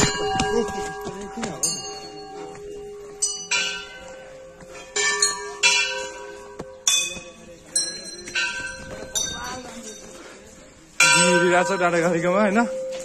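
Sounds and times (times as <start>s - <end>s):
temple bells clanging: 0.0s - 13.0s.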